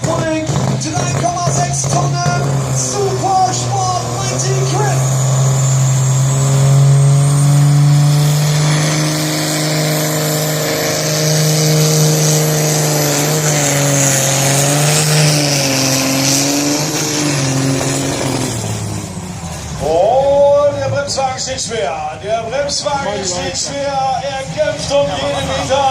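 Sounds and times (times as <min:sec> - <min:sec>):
tractor diesel engine under load: 0:00.0 - 0:25.9.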